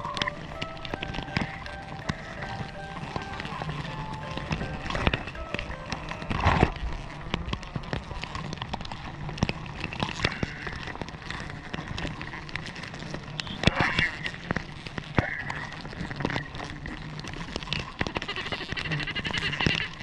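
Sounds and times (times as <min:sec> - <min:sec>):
rustling leaves and twigs: 0:00.0 - 0:20.0
sharp crackles and clicks: 0:00.0 - 0:20.0.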